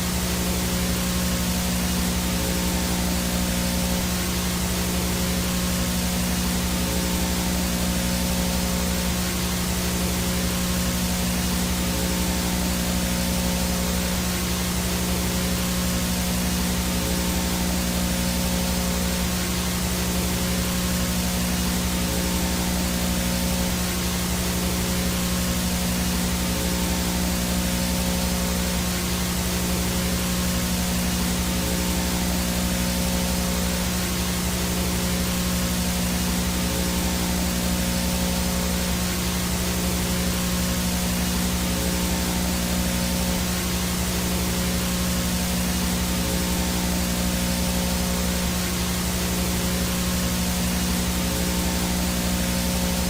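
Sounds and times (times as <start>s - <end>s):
low electrical hum: 0.0s - 53.0s
static hiss: 0.0s - 53.0s
thin high whine: 0.0s - 53.0s.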